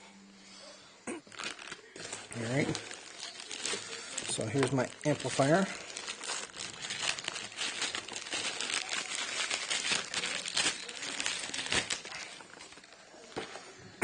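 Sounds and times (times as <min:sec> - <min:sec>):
packaging crinkling and rustling: 0:01.2 - 0:13.7.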